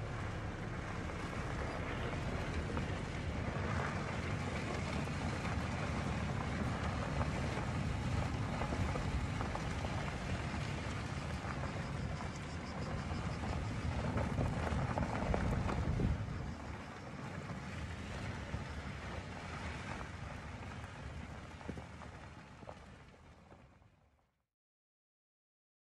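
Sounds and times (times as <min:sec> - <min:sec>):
rushing wind: 0:00.0 - 0:21.8.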